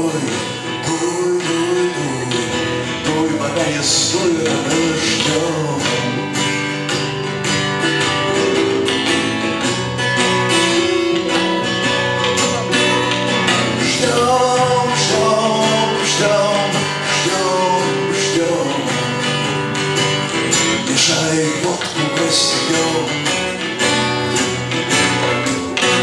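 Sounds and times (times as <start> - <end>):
folk-rock band playing: 0.0 - 26.0
strummed acoustic guitar: 0.0 - 26.0.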